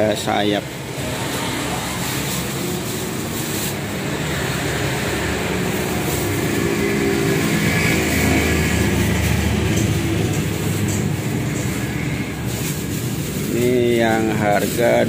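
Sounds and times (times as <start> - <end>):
street traffic noise: 0.0 - 15.0
vehicle engine running close: 0.0 - 15.0.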